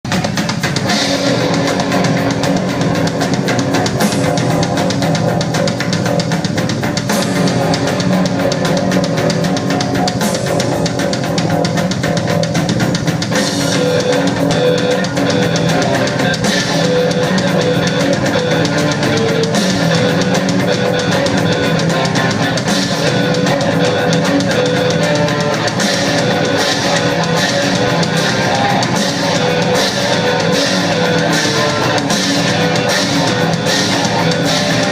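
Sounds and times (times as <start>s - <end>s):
drum kit: 0.0s - 34.9s
electric guitar: 0.0s - 34.9s.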